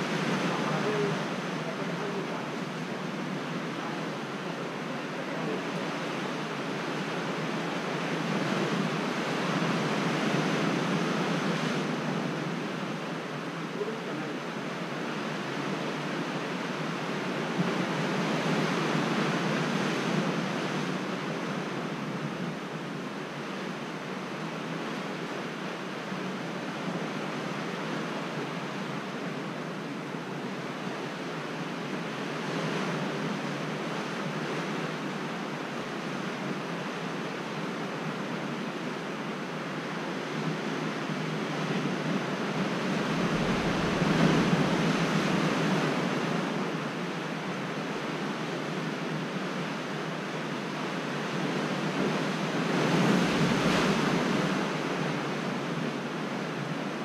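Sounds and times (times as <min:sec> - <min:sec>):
ocean surf on rocky shore: 0:00.0 - 0:57.0.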